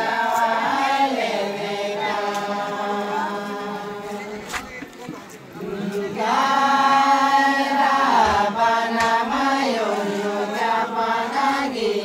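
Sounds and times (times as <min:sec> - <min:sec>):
person chanting a sung line: 0:00.0 - 0:04.6, 0:05.5 - 0:12.0.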